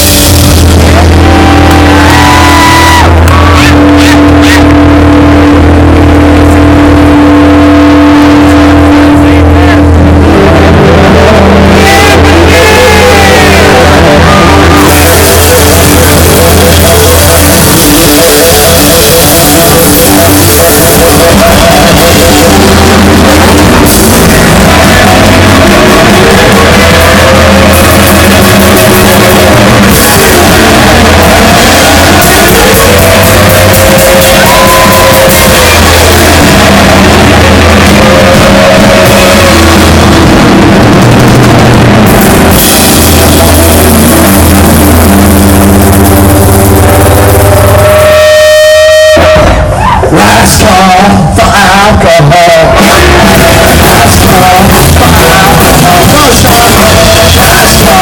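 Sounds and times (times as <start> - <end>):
lead guitar bending notes: 0.0 - 58.0
live rock band playing: 0.0 - 58.0.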